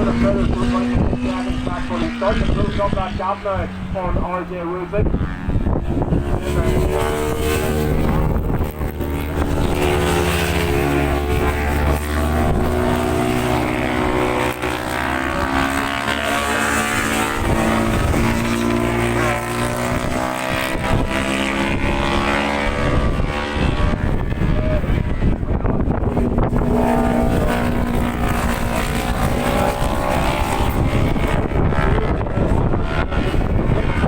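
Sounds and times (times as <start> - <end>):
racing motorcycle engines revving: 0.0 - 34.0.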